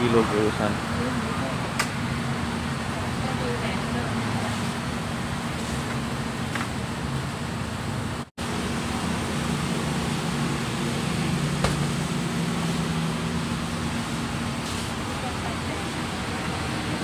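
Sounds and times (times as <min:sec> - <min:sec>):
mechanical hum and hiss: 0:00.5 - 0:17.0.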